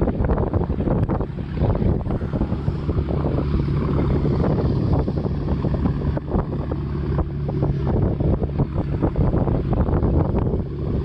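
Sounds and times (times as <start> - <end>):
steady low hum: 0.0 - 11.0
wind buffeting microphone: 0.0 - 11.0.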